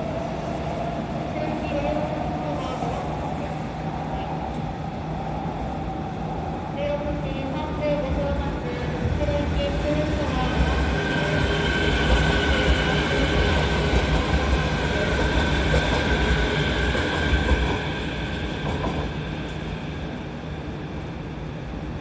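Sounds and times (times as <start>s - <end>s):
train high whine: 0.0s - 22.0s.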